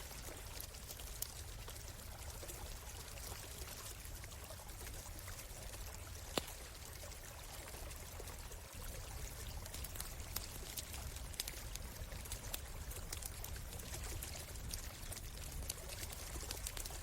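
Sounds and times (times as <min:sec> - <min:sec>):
campfire crackling: 0:00.0 - 0:17.0
stream water flowing: 0:00.0 - 0:17.0.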